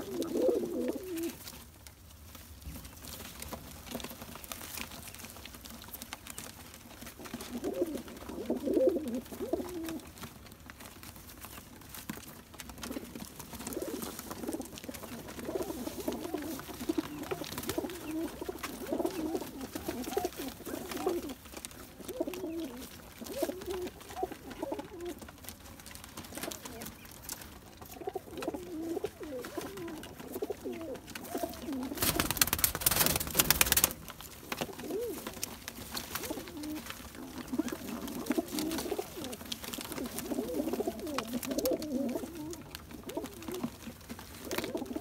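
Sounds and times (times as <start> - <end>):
pigeons cooing: 0.0 - 1.5, 6.3 - 10.3, 12.7 - 45.0.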